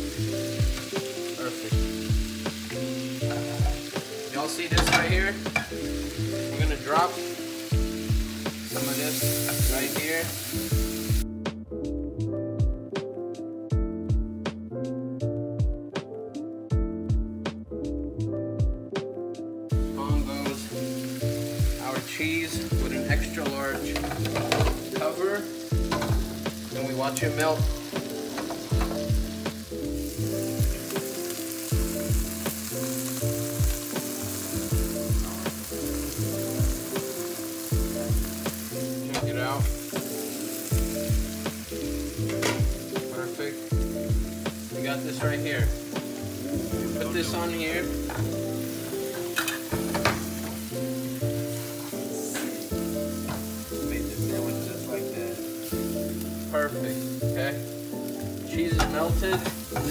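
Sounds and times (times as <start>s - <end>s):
food sizzling in a frying pan: 0.0s - 11.3s, 19.7s - 59.9s
background music with bass: 0.0s - 59.9s.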